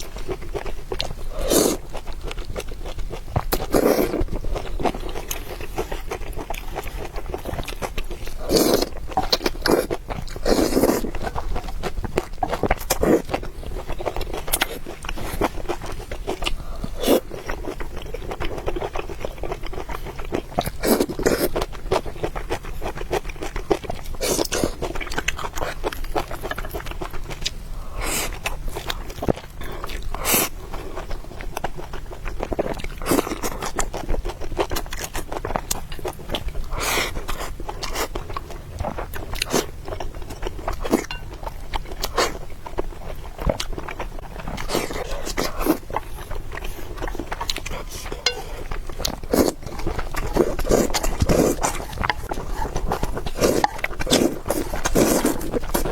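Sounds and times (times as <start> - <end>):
chewing and biting: 0.0 - 55.9.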